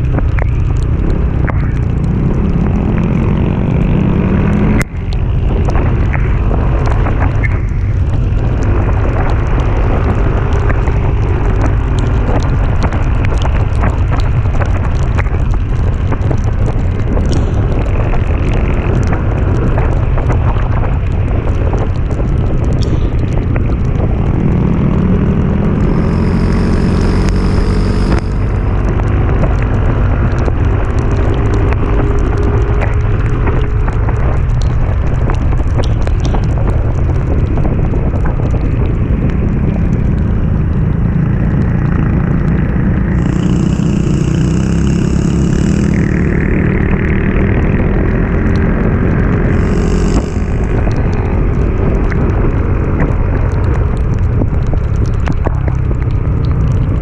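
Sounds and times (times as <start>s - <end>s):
vehicle engine pulling uphill: 0.0s - 57.0s
wind buffeting on microphone: 0.0s - 57.0s.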